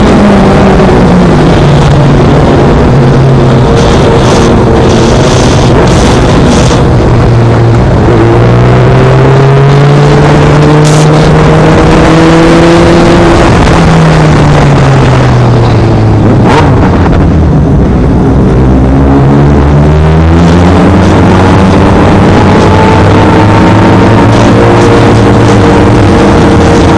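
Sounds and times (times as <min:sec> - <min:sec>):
heavy wind noise: 0:00.0 - 0:26.9
motorcycle engine running: 0:00.0 - 0:26.9.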